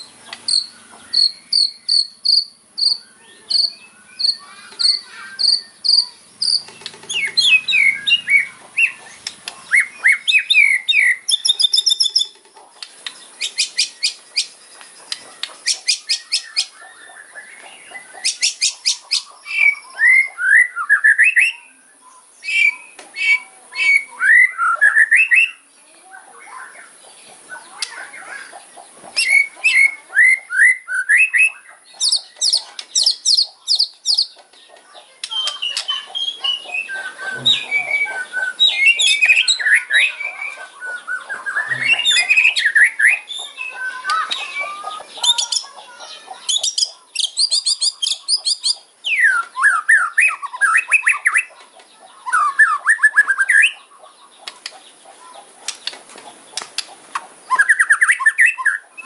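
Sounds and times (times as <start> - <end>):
songbird singing rattling notes: 0.0 - 59.0.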